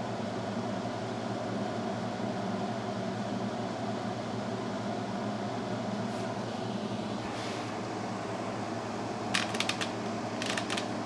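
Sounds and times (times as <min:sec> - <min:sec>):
cooling fans humming: 0:00.0 - 0:11.0.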